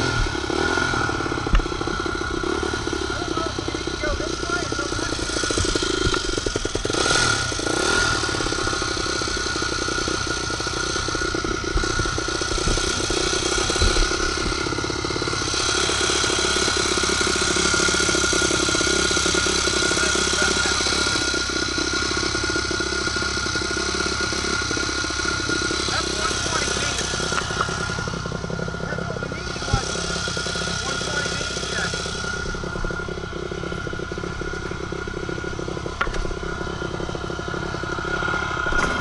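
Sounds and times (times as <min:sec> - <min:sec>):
dirt bike engine running: 0:00.0 - 0:39.0.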